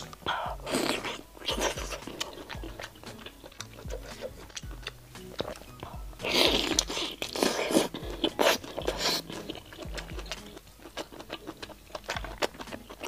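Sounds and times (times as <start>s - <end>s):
person chewing with wet mouth clicks: 0.0s - 13.0s.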